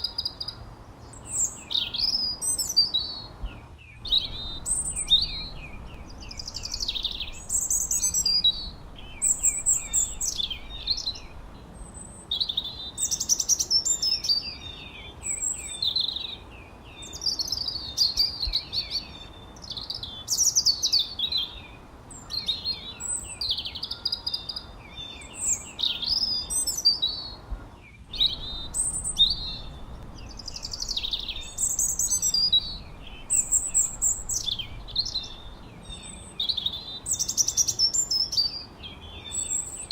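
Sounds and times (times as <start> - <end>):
faint steady hiss: 0.0 - 39.9
songbirds chirping and whistling: 0.0 - 39.9.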